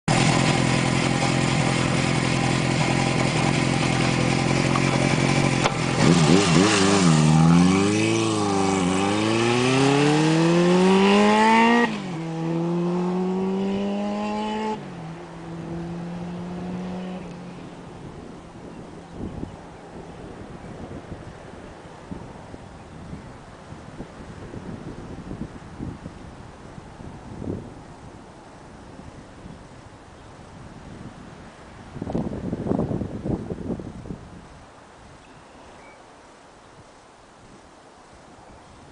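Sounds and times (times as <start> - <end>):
motorcycle engine idling and accelerating: 0.1 - 35.6.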